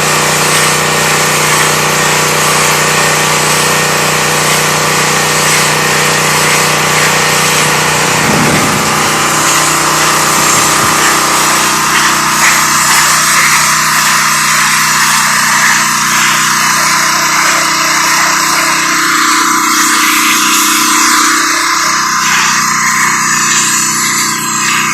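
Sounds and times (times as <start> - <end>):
high-pressure water spray hiss: 0.0 - 24.9
small engine droning: 0.0 - 24.9.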